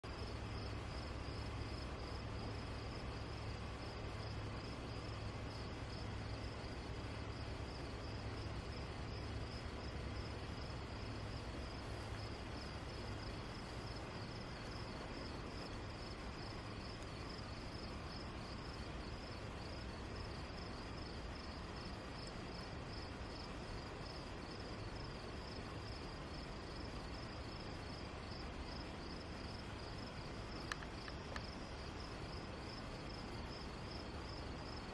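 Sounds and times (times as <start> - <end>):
crickets chirping: 0.0 - 34.9
low steady hum: 0.0 - 34.9.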